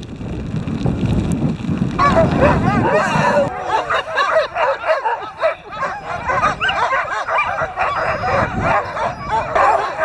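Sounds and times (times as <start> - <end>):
sled dogs barking and yipping: 2.0 - 10.0.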